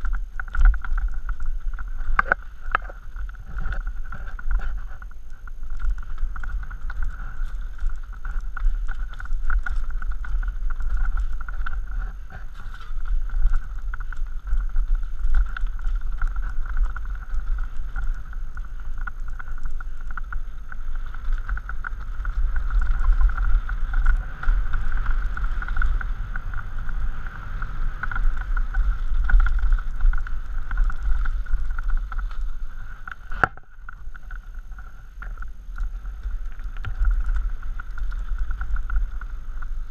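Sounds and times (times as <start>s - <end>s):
bike rattling and clacking: 0.0s - 39.9s
tyres crunching on dirt and stones: 0.0s - 39.9s
wind buffeting microphone: 0.0s - 39.9s.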